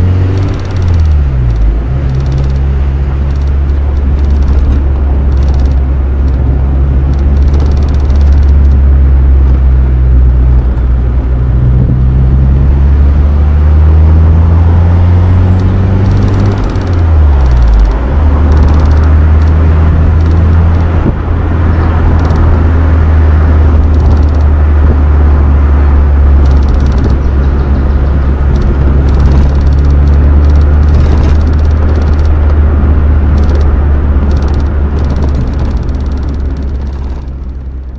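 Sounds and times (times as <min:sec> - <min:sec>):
car engine exhaust drone: 0:00.0 - 0:37.9.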